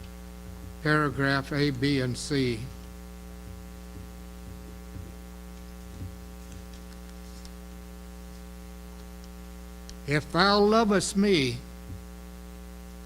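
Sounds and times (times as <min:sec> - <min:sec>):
buzzy electrical mains hum: 0:00.0 - 0:13.0.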